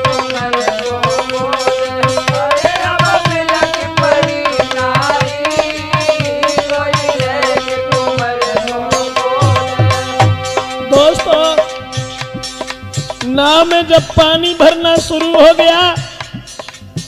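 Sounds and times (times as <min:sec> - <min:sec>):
folk melody line: 0:00.0 - 0:17.0
hand drums fast rhythm: 0:00.0 - 0:17.0.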